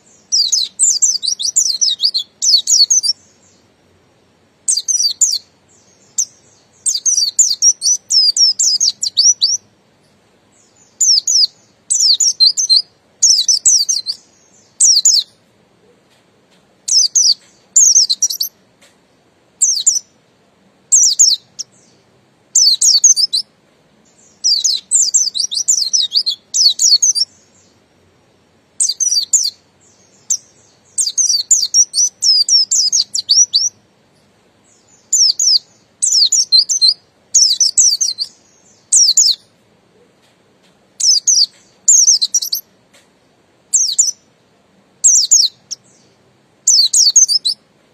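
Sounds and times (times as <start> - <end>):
bird singing high twitters: 0.0 - 3.8, 4.6 - 15.5, 16.8 - 20.2, 20.9 - 40.2, 41.0 - 44.3, 45.0 - 47.7.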